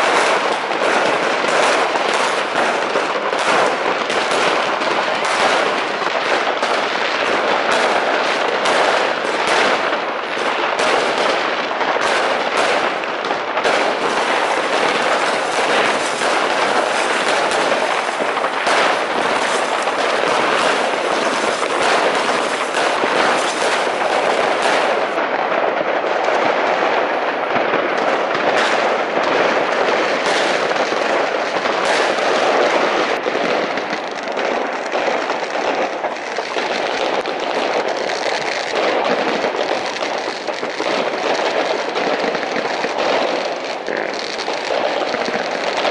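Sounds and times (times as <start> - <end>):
fireworks barrage: 0.0 - 45.9.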